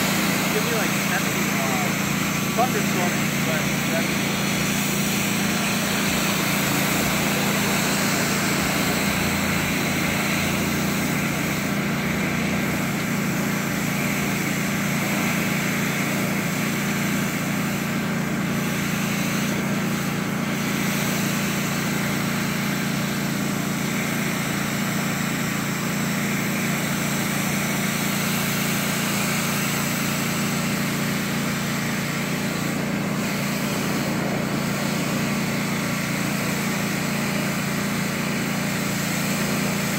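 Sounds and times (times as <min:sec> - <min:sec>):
pressure washer motor drone: 0:00.0 - 0:39.9
water jet hissing on concrete: 0:00.0 - 0:39.9.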